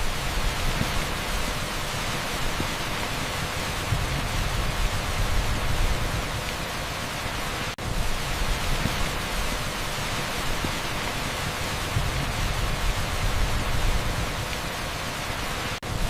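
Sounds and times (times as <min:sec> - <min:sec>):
torrential rain on a street: 0:00.0 - 0:16.0.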